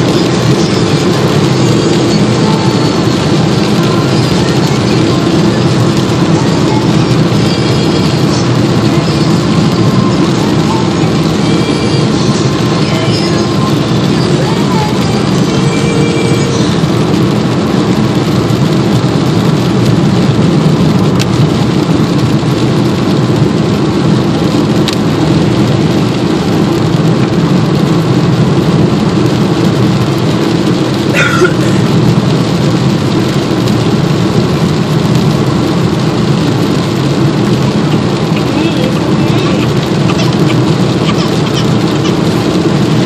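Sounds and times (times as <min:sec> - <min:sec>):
car engine running: 0:00.0 - 0:43.0
rain on car: 0:00.0 - 0:43.0
tyre noise on wet road: 0:00.0 - 0:43.0.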